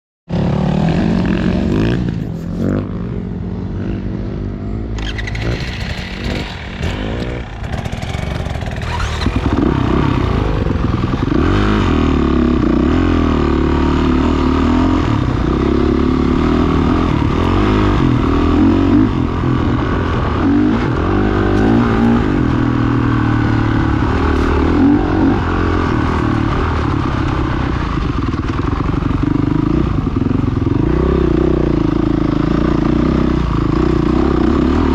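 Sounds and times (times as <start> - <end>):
motorcycle engine revving: 0.3 - 34.9.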